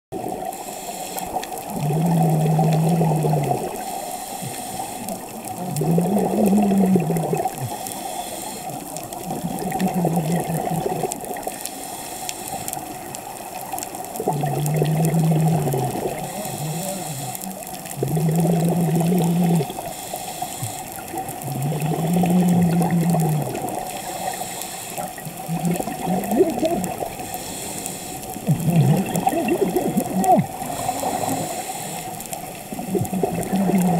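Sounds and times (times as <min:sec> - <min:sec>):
bubbling rush: 0:00.2 - 0:33.9
diver breathing through regulator: 0:00.4 - 0:13.0, 0:14.2 - 0:33.9.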